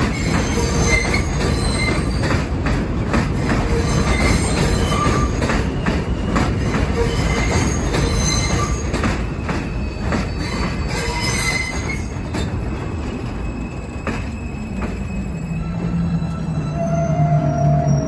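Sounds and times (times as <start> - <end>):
train wheels rumbling and squealing: 0.0 - 18.0.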